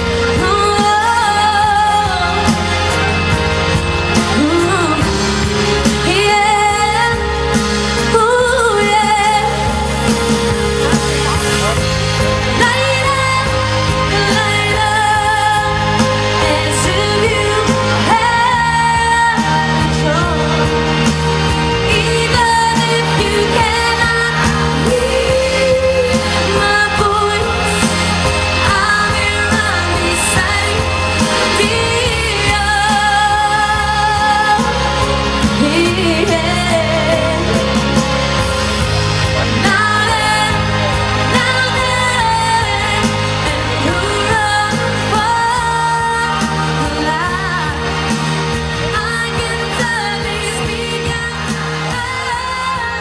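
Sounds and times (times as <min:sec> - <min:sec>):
instrumental accompaniment: 0:00.0 - 0:53.0
woman singing pop song: 0:00.0 - 0:53.0.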